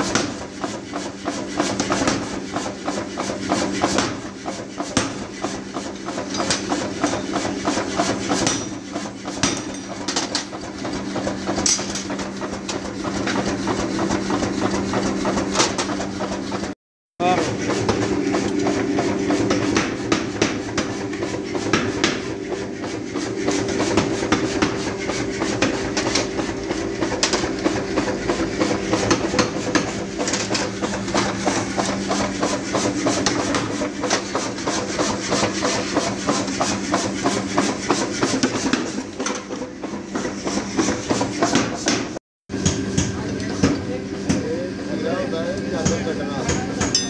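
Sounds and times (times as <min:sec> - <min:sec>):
forge blower humming: 0:00.0 - 0:47.0.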